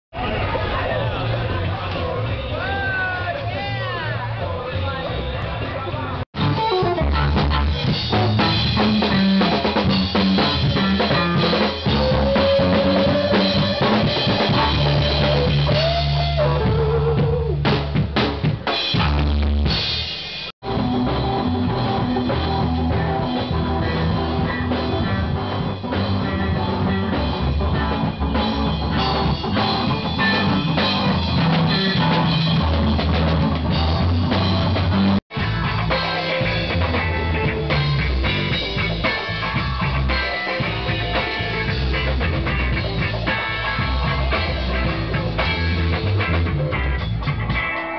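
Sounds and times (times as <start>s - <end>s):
bass guitar: 0.1s - 47.9s
drum kit: 0.1s - 47.9s
guitar: 0.1s - 47.9s.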